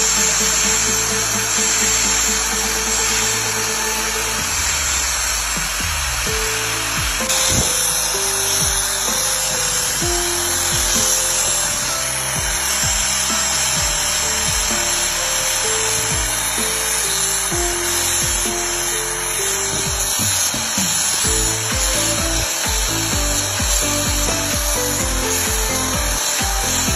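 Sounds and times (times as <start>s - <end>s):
background music: 0.0s - 26.9s
grinder grinding steel: 0.0s - 26.9s.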